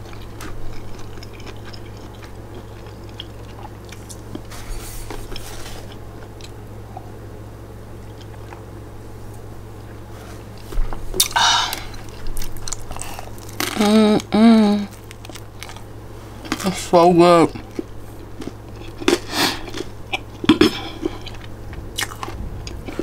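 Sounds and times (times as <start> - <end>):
person chewing food: 0.0 - 7.1, 8.0 - 8.8, 10.4 - 16.8, 17.5 - 23.0
steady low hum: 0.0 - 23.0.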